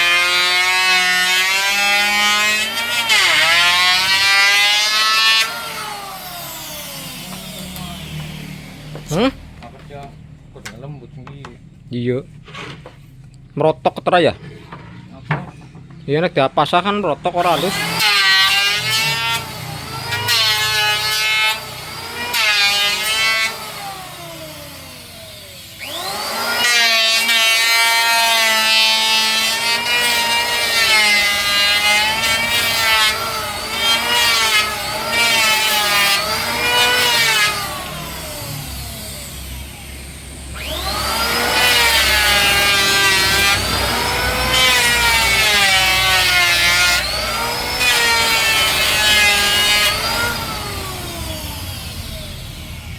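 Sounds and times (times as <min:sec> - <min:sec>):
electric wood planer running: 0:00.0 - 0:09.8, 0:17.4 - 0:52.9.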